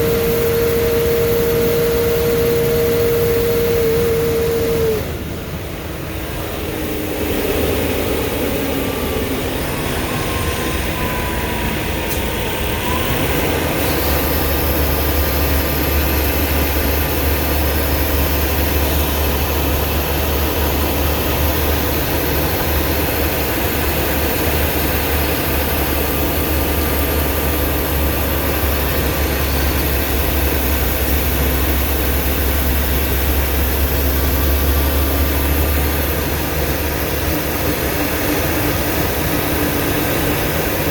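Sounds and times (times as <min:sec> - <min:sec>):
bus engine drone: 0:00.0 - 0:40.9
road noise: 0:00.0 - 0:40.9.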